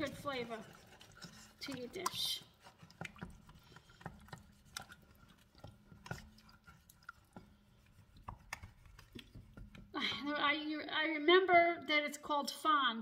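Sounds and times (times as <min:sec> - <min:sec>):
squishy liquid sounds: 0:00.0 - 0:10.5
wooden spatula scraping pot: 0:00.0 - 0:10.7.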